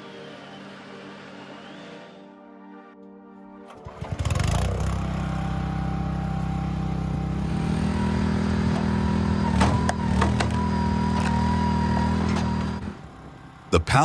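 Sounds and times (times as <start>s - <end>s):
machine engine running: 0.0s - 2.3s, 3.8s - 14.0s.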